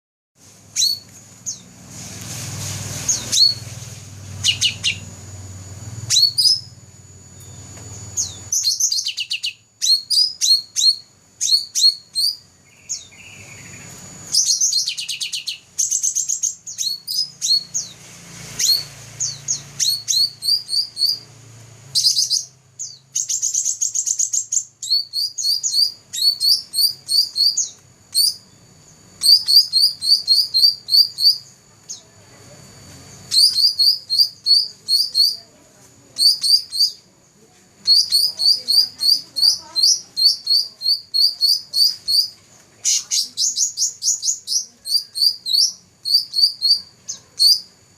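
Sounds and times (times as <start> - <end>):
songbird chirps and trills: 0.4 - 47.9.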